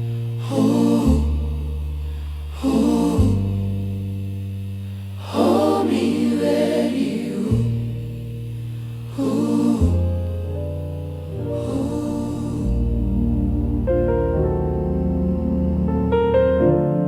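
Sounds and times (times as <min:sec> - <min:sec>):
voices singing gospel song: 0:00.0 - 0:04.0, 0:05.2 - 0:15.9
long held low notes: 0:00.0 - 0:17.0.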